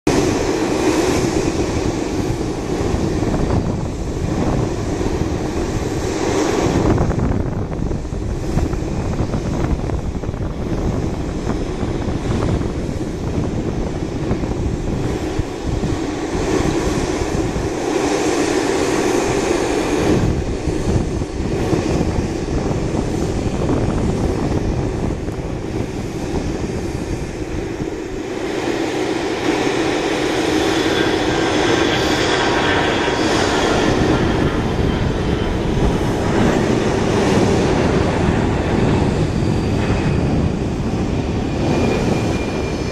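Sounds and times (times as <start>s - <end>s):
jet engines roaring at takeoff: 0.0s - 42.9s.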